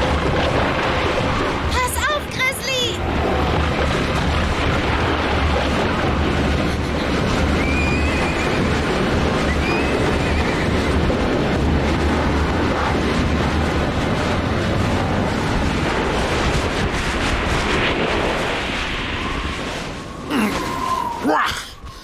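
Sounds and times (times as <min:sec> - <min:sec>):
avalanche rumbling rush: 0:00.0 - 0:22.0.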